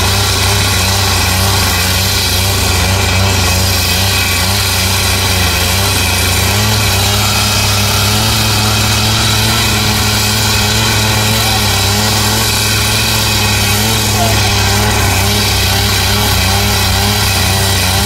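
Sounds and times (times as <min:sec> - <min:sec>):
rail saw disc grinding steel: 0:00.0 - 0:18.0.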